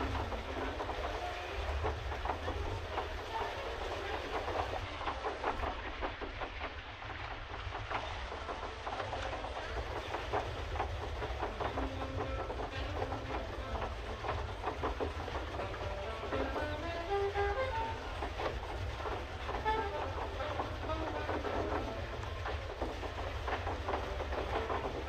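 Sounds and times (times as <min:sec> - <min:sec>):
pedal boat clicking and knocking: 0:00.0 - 0:25.0.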